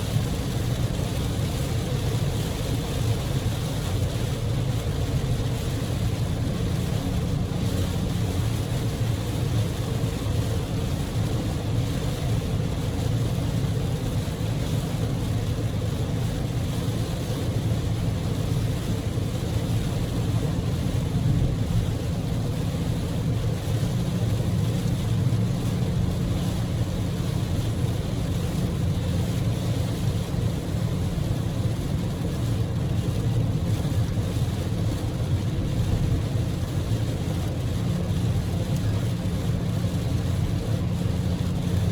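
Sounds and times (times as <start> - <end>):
heavy rain on car: 0.0 - 41.9
road and engine drone: 0.0 - 41.9.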